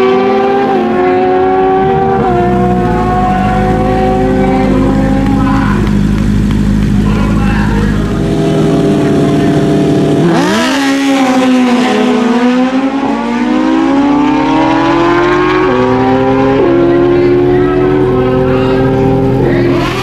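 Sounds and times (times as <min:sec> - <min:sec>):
motorcycle engines accelerating: 0:00.0 - 0:20.0.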